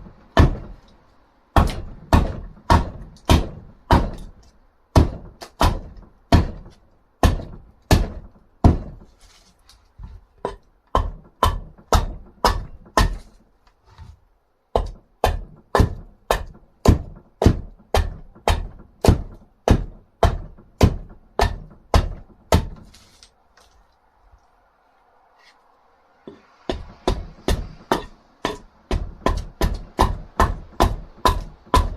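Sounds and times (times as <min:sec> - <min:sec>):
blade chopping dried wood: 0:00.0 - 0:23.8, 0:26.3 - 0:31.9.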